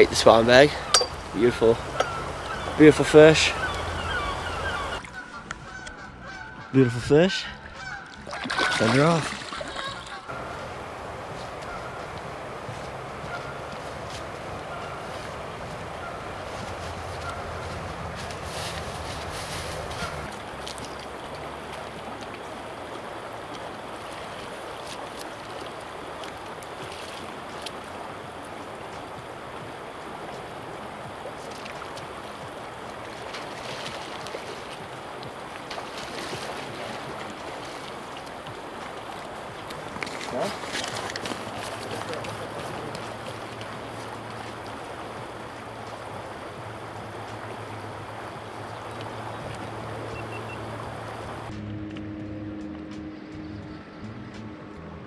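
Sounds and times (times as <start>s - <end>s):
river water over gravel: 0.0s - 5.9s, 6.8s - 51.6s.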